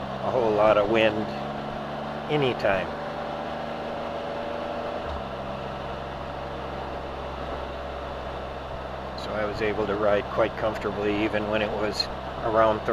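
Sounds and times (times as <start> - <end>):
motorcycle engine hum: 0.0 - 12.9
road and wind noise: 0.0 - 12.9.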